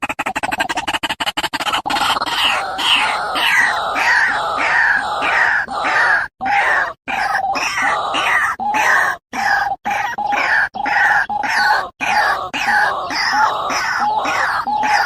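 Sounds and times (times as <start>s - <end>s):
bird harsh calls: 0.0s - 15.0s.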